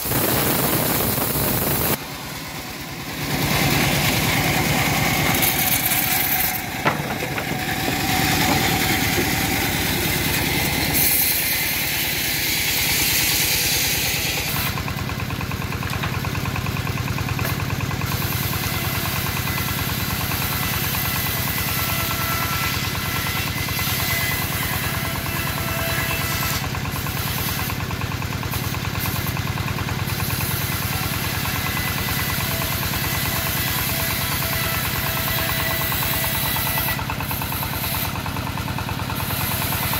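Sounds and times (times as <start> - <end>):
bandsaw mill engine running: 0.0 - 39.9.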